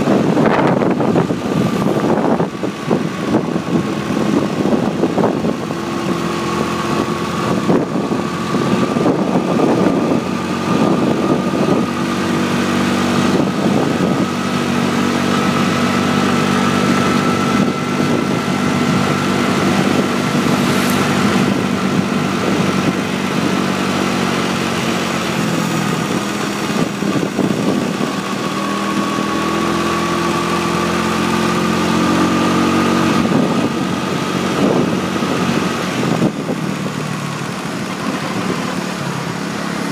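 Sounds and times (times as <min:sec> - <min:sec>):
motorbike engine running: 0:00.0 - 0:39.9
wind rushing over microphone: 0:00.0 - 0:39.9.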